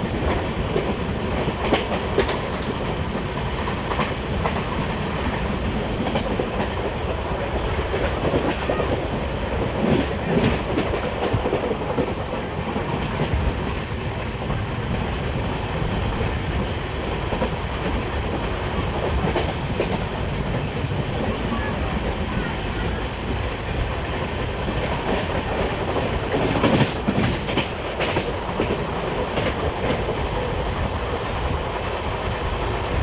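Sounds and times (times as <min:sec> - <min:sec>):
clickety-clack over rail joints: 0:00.0 - 0:33.0
train wheels rumbling on rails: 0:00.0 - 0:33.0.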